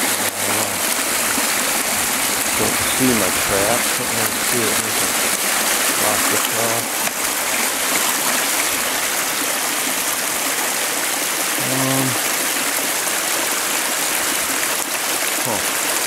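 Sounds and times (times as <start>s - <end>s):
water rushing and gurgling: 0.0s - 16.0s.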